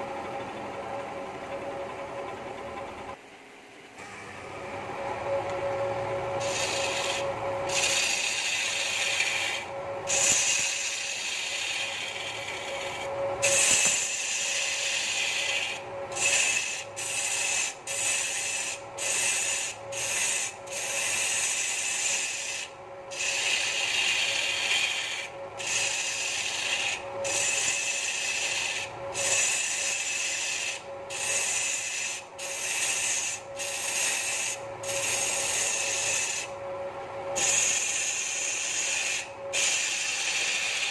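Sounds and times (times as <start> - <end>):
lathe motor hum: 0.0 - 3.3, 4.0 - 40.9
chisel scraping spinning wood: 5.0 - 36.5, 37.3 - 40.9.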